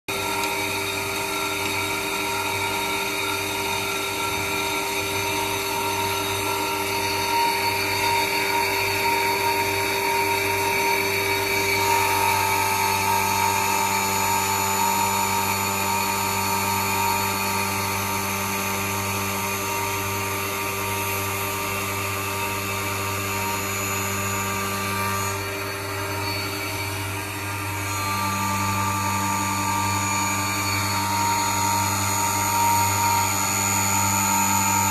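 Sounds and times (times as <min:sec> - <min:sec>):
grinding machine motor hum: 0:00.1 - 0:34.9
high spindle whines: 0:00.1 - 0:34.9.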